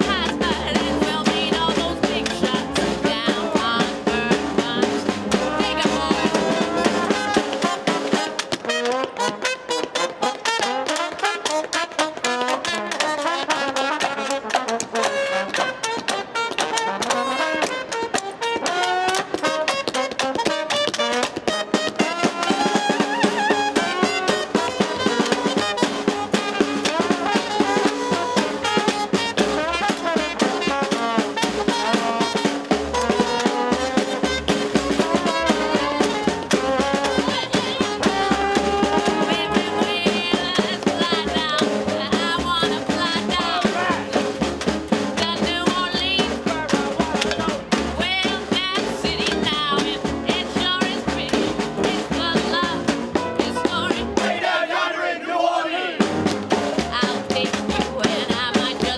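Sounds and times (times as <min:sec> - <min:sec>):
wooden spoons striking drum: 0:00.0 - 0:54.4, 0:56.1 - 0:58.9
jazz band playing: 0:00.0 - 0:54.6, 0:56.0 - 0:58.9.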